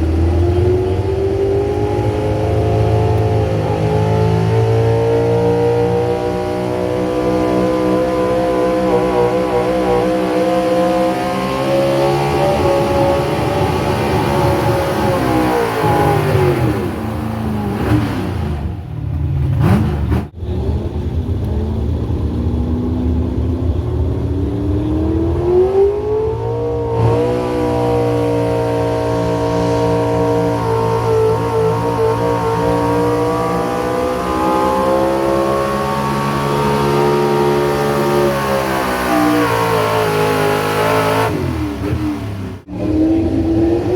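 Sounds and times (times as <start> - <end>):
vehicle engine revving hard: 0.0 - 18.8, 19.5 - 22.5, 24.6 - 43.9.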